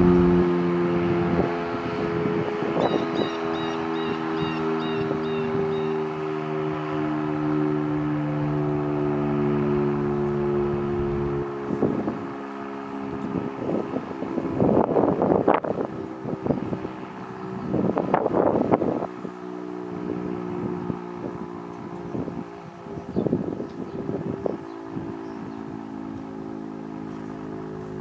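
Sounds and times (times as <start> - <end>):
siren low drone: 0.0 - 28.0
wind buffeting microphone: 0.0 - 28.0.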